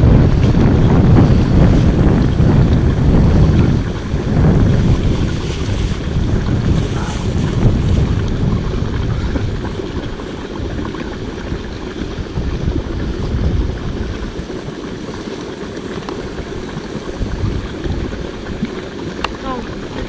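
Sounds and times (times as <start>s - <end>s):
mud pit bubbling: 0.0s - 20.0s
wind buffeting microphone: 0.0s - 20.0s.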